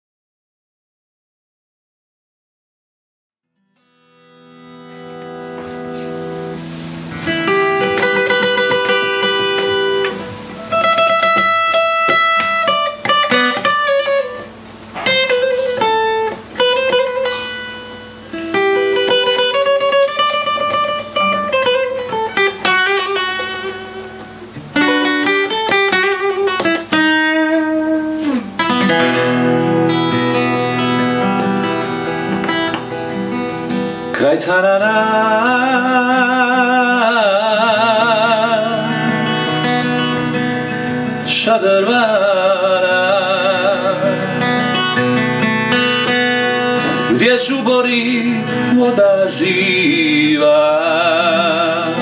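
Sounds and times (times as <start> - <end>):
acoustic guitar plucked melody: 3.4 - 52.0.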